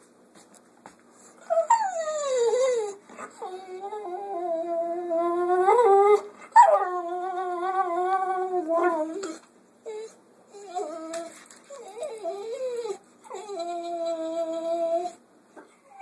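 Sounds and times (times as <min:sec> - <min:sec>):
dog howling whine: 0:01.5 - 0:15.2.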